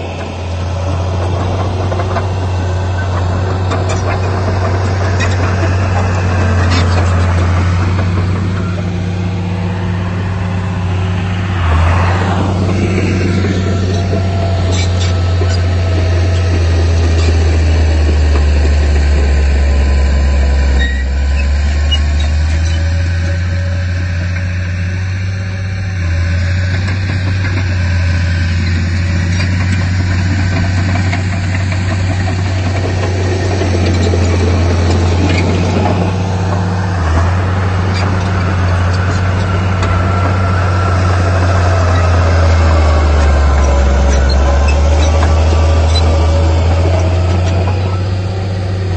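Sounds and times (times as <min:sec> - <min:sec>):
heavy diesel engine drone: 0:00.0 - 0:48.9.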